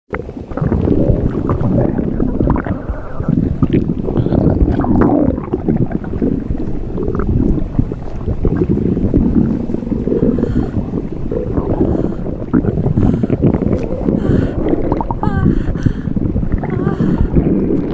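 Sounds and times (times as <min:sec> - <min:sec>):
stomach gurgling and rumbling: 0:00.1 - 0:17.9.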